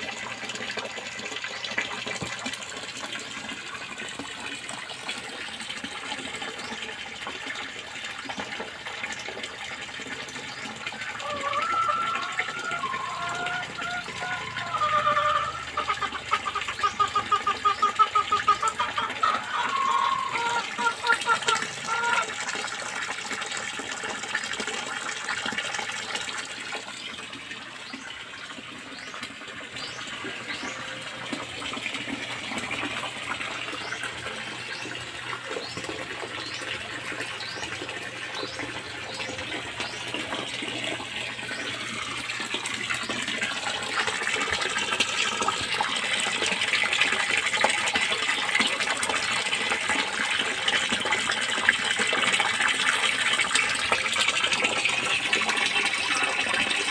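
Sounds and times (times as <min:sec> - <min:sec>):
water splashing into a pond: 0:00.0 - 0:56.9.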